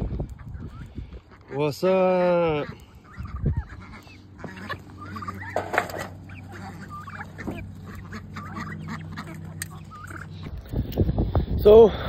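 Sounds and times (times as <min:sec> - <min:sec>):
chickens and turkeys clucking: 0:00.0 - 0:11.1.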